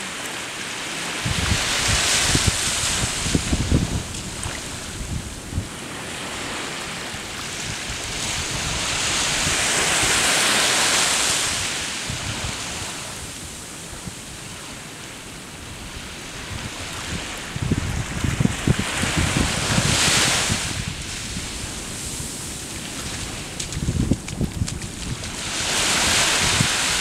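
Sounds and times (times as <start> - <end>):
small waves washing onto sand: 0.0 - 27.0
wind buffeting microphone: 1.2 - 10.5, 11.4 - 14.4, 15.6 - 27.0.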